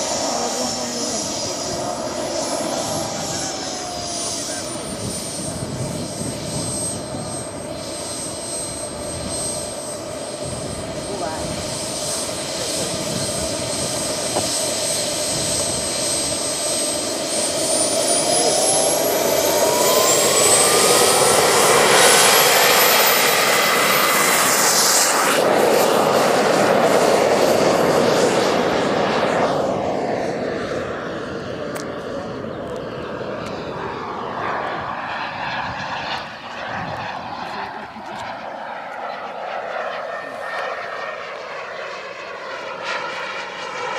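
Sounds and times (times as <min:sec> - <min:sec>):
model jet turbine whine: 0:00.0 - 0:43.9.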